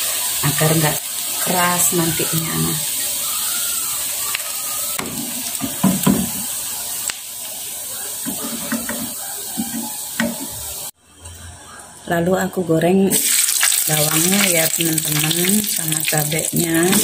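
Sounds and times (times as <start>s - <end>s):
fish sizzling in oil: 0.0s - 10.9s, 13.1s - 17.0s.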